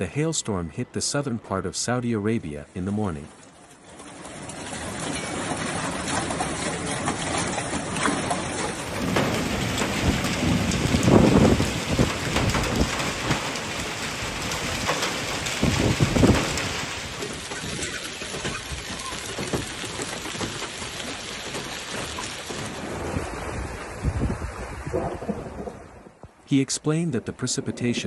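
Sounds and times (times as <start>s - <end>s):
heavy rain pounding: 4.0s - 28.0s.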